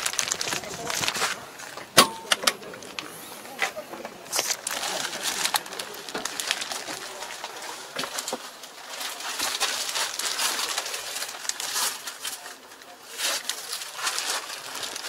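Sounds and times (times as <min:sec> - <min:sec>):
rustling and crackling plastic: 0:00.0 - 0:15.0.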